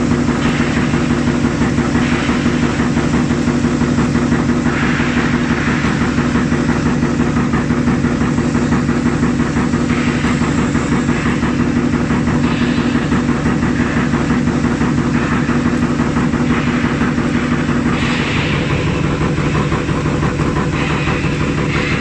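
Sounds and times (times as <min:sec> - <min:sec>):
hissy metal cutting noise: 0:00.0 - 0:22.0
milling machine humming drone: 0:00.0 - 0:22.0.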